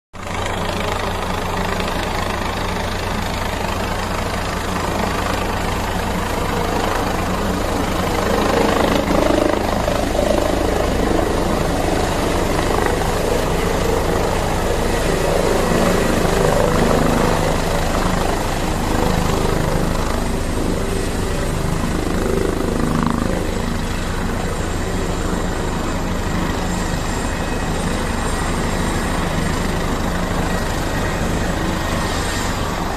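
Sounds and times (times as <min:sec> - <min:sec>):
helicopter rotor and engine: 0:00.2 - 0:32.9.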